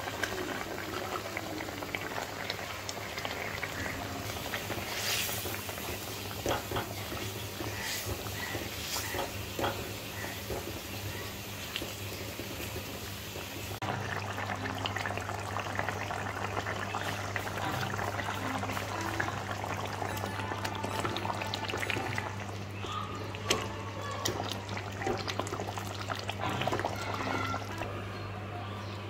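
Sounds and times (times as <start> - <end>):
curry bubbling and popping: 0.0 - 27.9.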